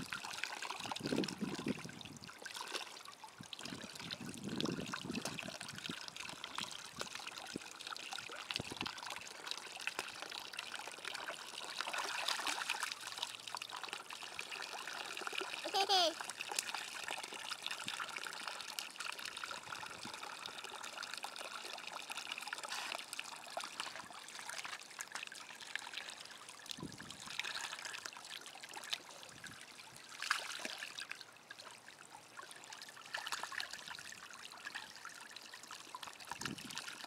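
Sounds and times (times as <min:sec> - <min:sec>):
water splashes: 0:00.0 - 0:37.0.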